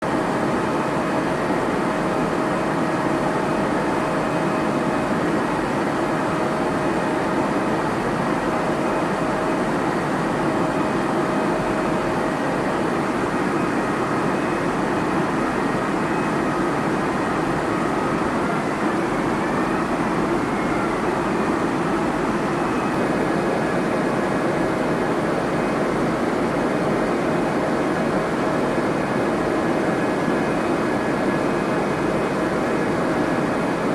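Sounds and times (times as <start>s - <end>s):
jet engine and airflow drone: 0.0s - 33.9s.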